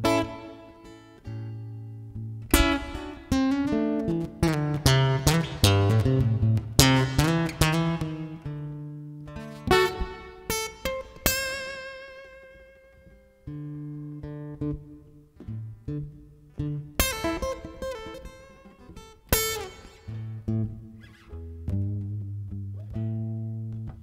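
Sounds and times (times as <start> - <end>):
guitar playing: 0.0 - 24.0.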